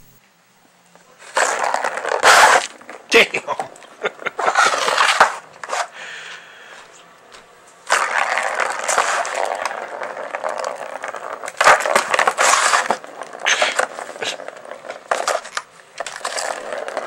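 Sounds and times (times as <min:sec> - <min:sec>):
plastic ball rolling on track: 0:01.2 - 0:06.5, 0:07.2 - 0:17.0.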